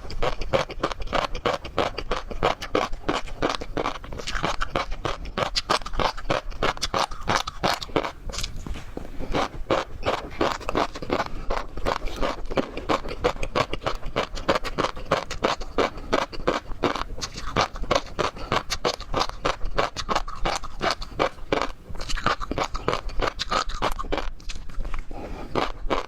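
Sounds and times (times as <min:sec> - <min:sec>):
seafood being chewed crunchily: 0:00.0 - 0:26.0.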